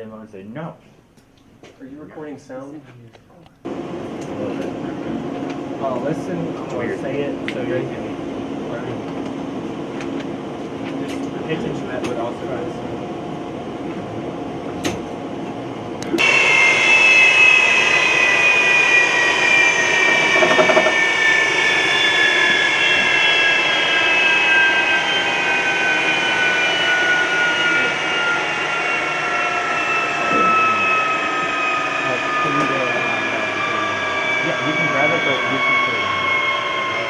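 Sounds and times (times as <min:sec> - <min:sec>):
high jet engine whine: 0:01.6 - 0:37.0
jet engine roaring: 0:03.6 - 0:37.0.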